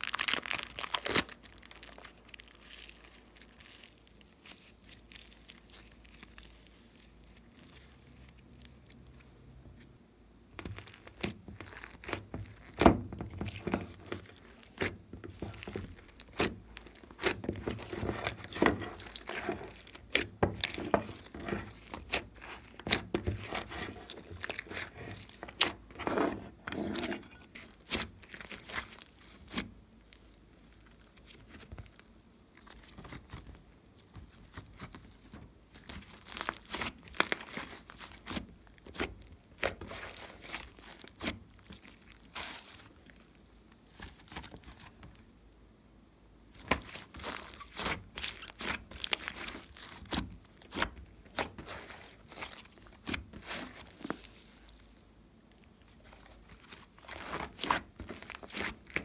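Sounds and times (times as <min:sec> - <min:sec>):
hands squishing sticky slime: 0:00.0 - 0:09.3, 0:10.5 - 0:32.0, 0:32.6 - 0:45.0, 0:46.5 - 0:59.0.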